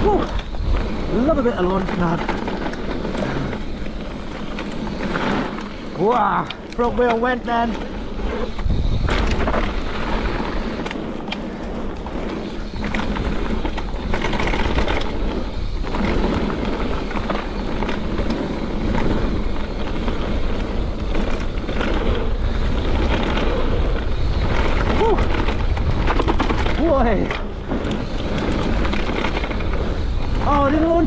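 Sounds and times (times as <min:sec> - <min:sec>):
bike clicks and rattles: 0:00.0 - 0:31.0
tyre noise on dirt trail: 0:00.0 - 0:31.0
wind rumble on microphone: 0:00.0 - 0:31.0.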